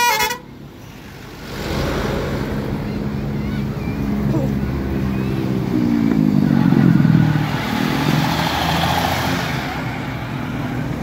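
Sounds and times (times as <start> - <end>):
rushing noise of passing vehicle: 0.2 - 11.0
vehicle engine accelerating: 1.2 - 11.0.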